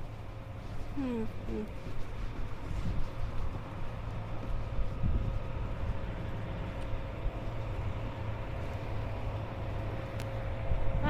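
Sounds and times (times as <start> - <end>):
faint constant hum: 0.0 - 11.0
low mechanical rumble: 0.0 - 11.0.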